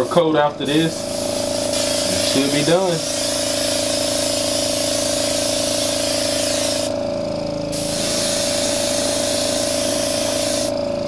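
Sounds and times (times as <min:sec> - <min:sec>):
air compressor humming: 0:00.0 - 0:11.0
airbrush spraying hiss: 0:00.8 - 0:07.0, 0:07.7 - 0:10.8.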